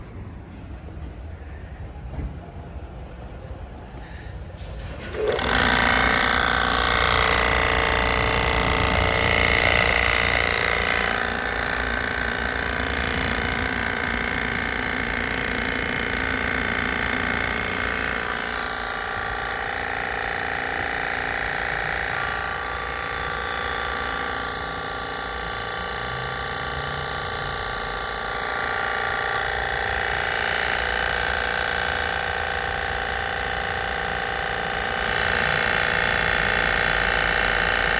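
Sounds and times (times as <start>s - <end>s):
sprayer pump motor whining: 3.1s - 37.9s.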